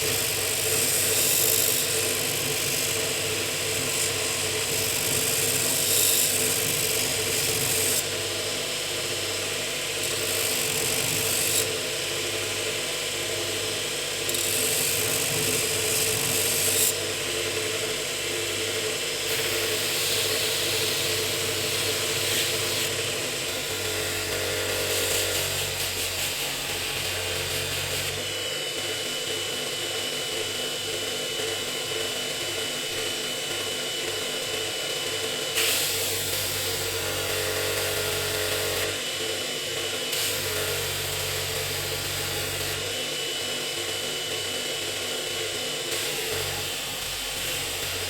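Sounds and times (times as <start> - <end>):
power tool running: 0.0 - 48.0.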